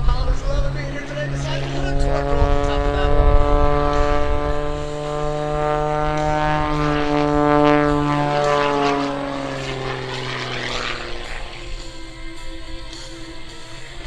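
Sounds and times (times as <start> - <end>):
propeller plane engine buzzing: 0.0 - 14.0.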